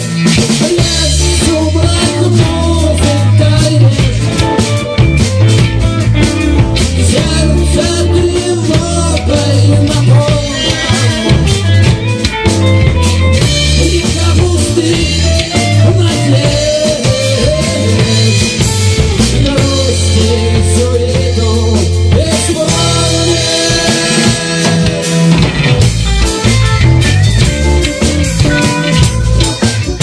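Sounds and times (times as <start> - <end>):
bass line: 0.0 - 30.0
drum kit beat: 0.0 - 30.0
guitar: 0.0 - 30.0.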